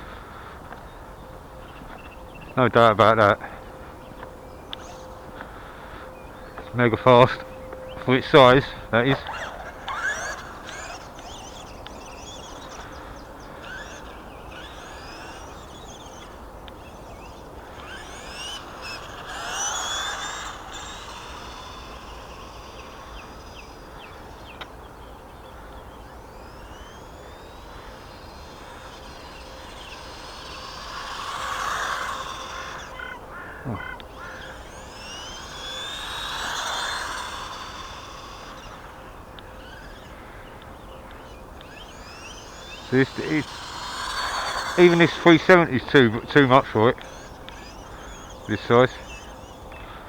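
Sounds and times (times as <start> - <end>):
electric motor whining: 0.0 - 50.0.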